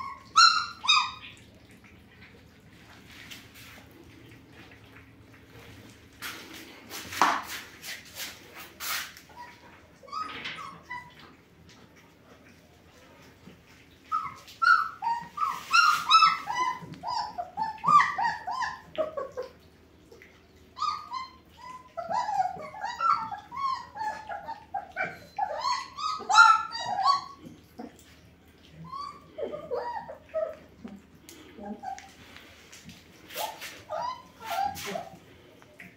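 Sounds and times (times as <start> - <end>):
puppies whining and yelping: 0.0 - 3.0, 9.2 - 35.9.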